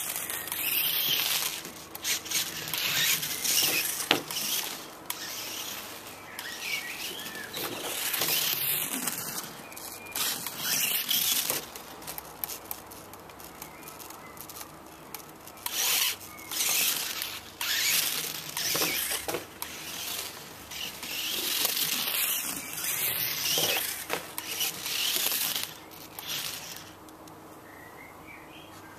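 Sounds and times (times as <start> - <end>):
toy car electric motor whining: 0.0 - 27.2.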